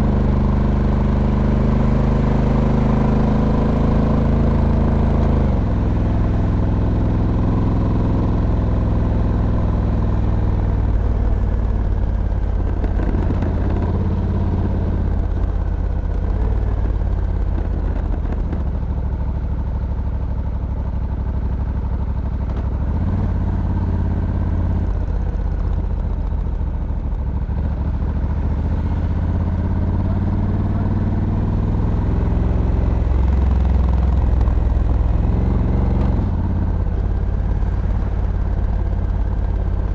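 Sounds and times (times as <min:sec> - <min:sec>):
motorcycle engine revving: 0:00.0 - 0:18.9, 0:22.4 - 0:39.9.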